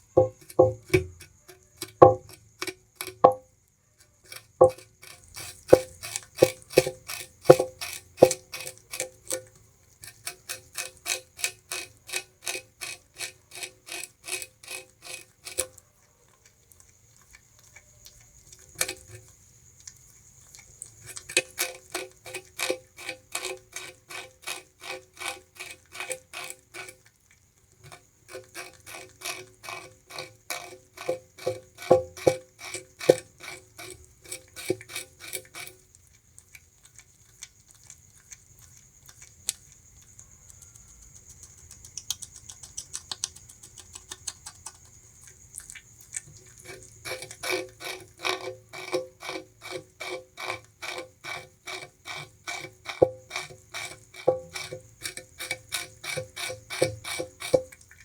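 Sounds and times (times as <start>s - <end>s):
rat crunching sugarcane: 0.0s - 58.0s.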